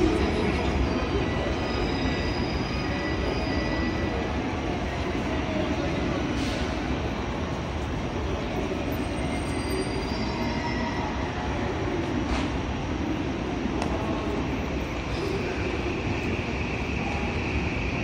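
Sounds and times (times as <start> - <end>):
busy station ambience: 0.0 - 18.0
electric train rumbling: 0.0 - 18.0.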